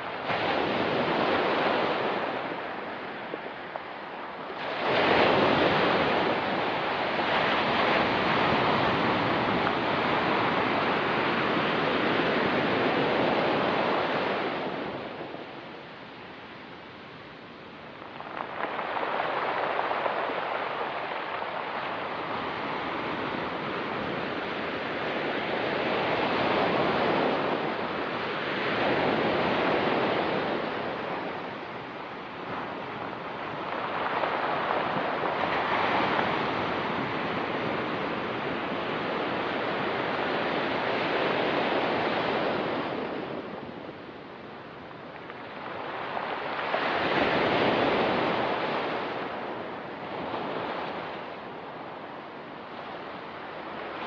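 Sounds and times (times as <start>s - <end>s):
ocean surf on rocky beach: 0.0s - 54.0s.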